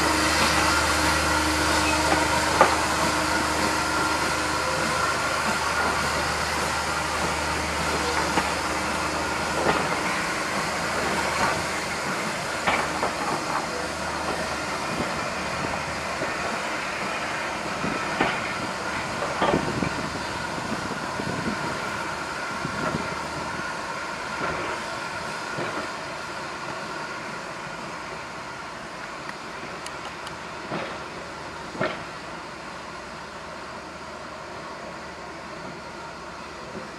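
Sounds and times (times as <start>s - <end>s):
train coaches rolling on rails: 0.0s - 36.9s.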